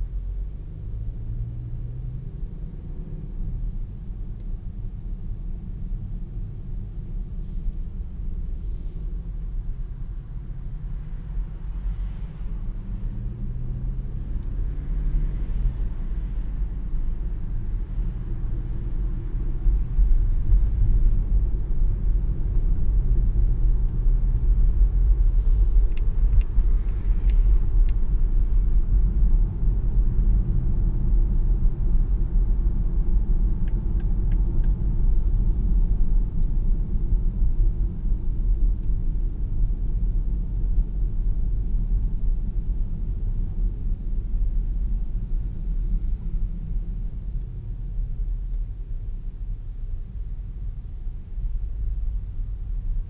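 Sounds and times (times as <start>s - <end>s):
road and tyre rumble: 0.0s - 53.0s.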